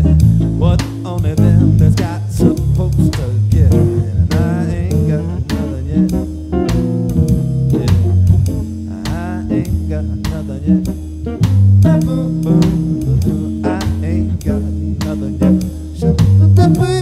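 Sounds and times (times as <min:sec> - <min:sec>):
drum kit: 0:00.0 - 0:17.0
electric guitar: 0:00.0 - 0:17.0
organ: 0:00.0 - 0:17.0.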